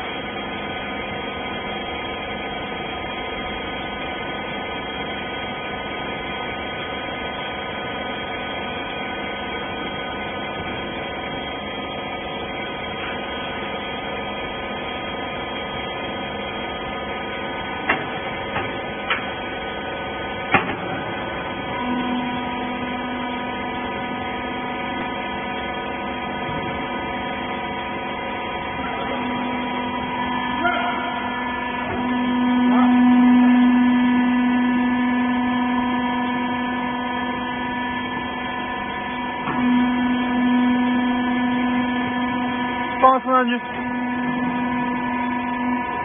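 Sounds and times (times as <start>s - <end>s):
baler motor and pump humming: 0.0s - 46.0s.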